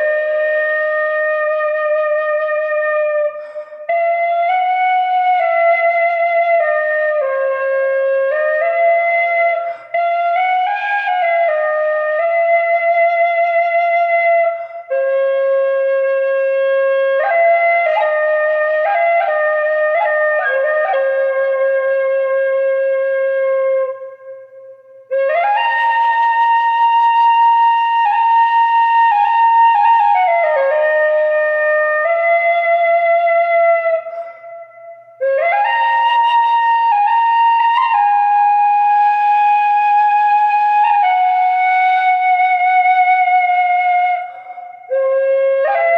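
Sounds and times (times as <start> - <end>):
solo flute melody: 0.0 - 45.9.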